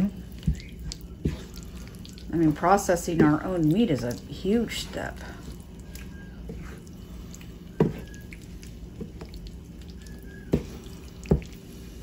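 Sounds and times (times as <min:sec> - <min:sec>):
wet squelching of stirred sauce: 0:00.0 - 0:12.0.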